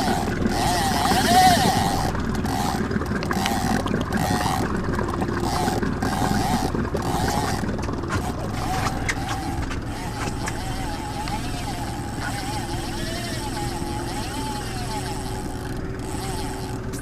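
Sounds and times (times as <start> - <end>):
fishing reel clicker buzzing: 0.0 - 4.8, 5.4 - 17.0
boat motor running: 0.0 - 17.0.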